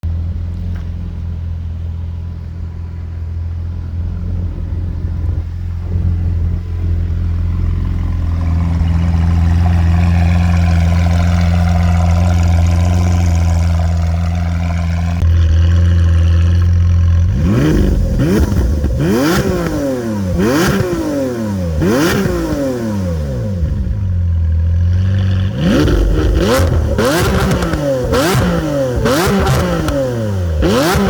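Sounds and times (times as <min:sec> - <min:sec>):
sports car engine revving: 0:00.1 - 0:31.0.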